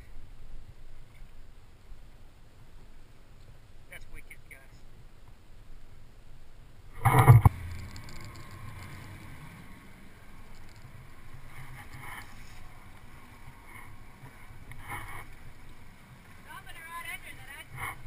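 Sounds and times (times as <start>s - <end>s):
water noise: 0.0s - 18.0s
wind: 0.0s - 18.0s.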